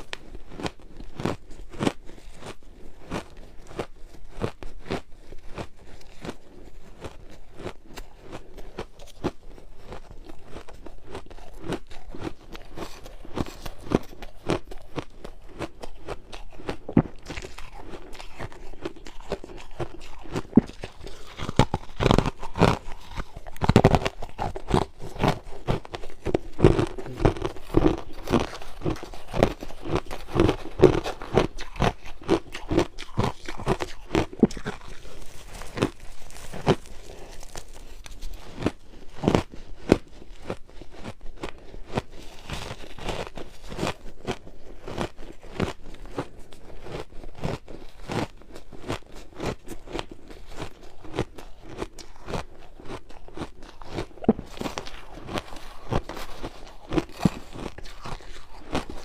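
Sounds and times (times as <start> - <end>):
chewing ice crunches: 0.0 - 59.0.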